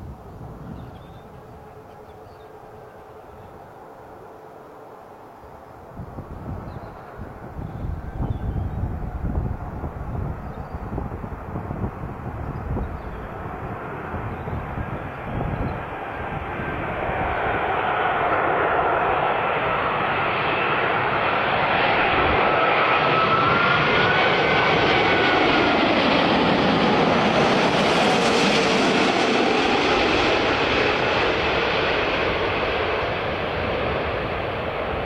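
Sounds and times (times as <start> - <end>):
aircraft passing by: 0.0 - 35.0.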